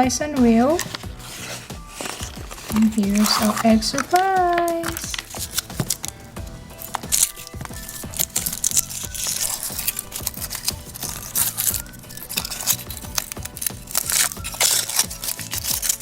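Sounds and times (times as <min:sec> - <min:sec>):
background music: 0:00.0 - 0:16.0
foil wrapper crinkling and tearing: 0:00.0 - 0:16.0.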